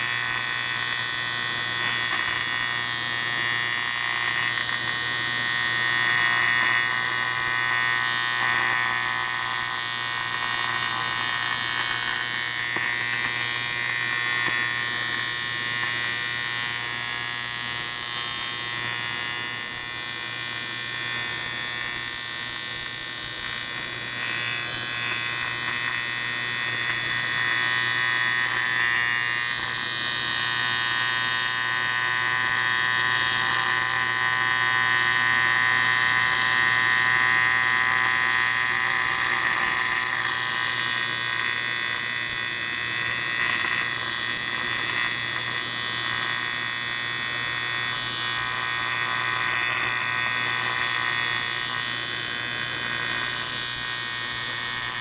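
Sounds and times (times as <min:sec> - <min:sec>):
welding arc buzzing: 0:00.0 - 0:55.0.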